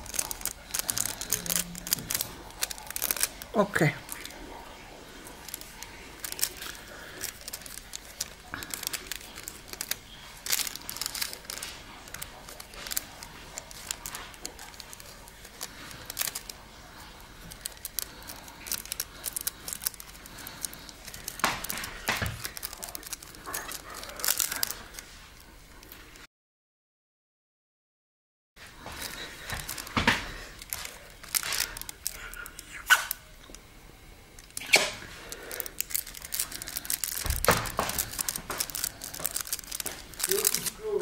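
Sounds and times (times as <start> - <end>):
foil crinkling: 0.0 - 26.2, 28.7 - 33.7, 34.3 - 41.0.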